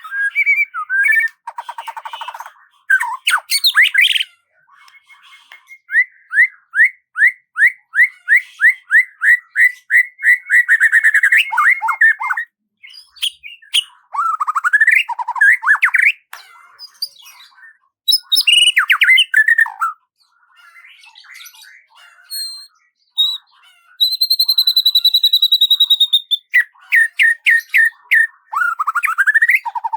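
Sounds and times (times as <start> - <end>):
birdsong chirps and trills: 0.0 - 29.9.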